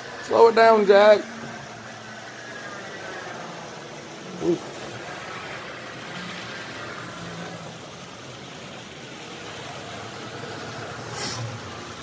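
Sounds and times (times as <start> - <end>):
model trains running on track: 0.0 - 12.0.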